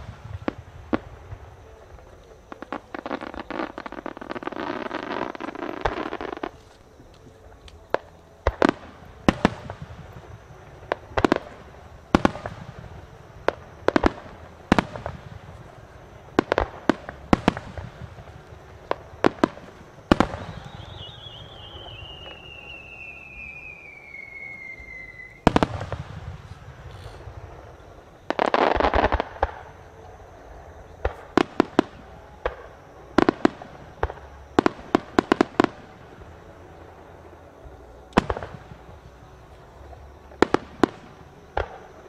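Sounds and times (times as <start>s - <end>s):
falling firework whistle: 0.0s - 30.2s, 31.0s - 42.0s.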